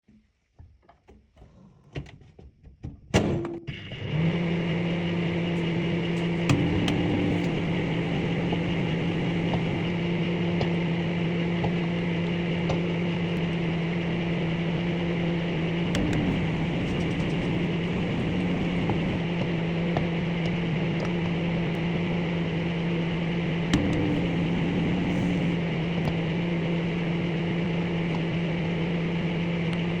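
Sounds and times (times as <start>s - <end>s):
microwave oven humming: 3.2s - 30.0s.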